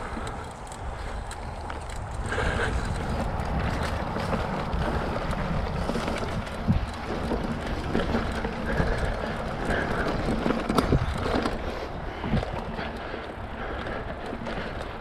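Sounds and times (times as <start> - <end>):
bike tyres rolling on dirt: 0.0 - 15.0
wind rumble on microphone: 0.0 - 15.0.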